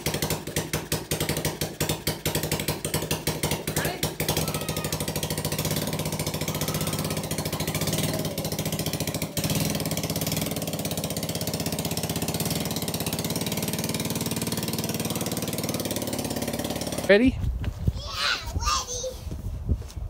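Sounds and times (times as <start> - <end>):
small four-stroke engine running: 0.0 - 17.4.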